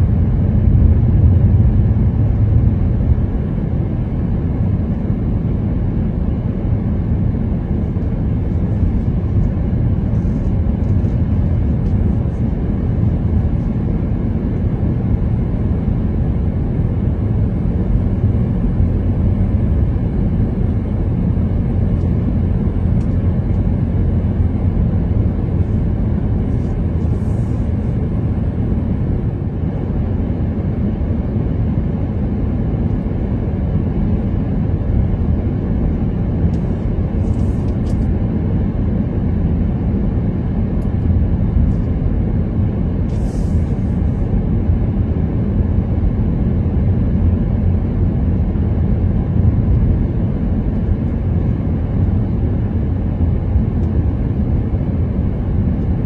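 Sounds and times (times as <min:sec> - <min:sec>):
car engine and road noise: 0:00.0 - 0:54.8.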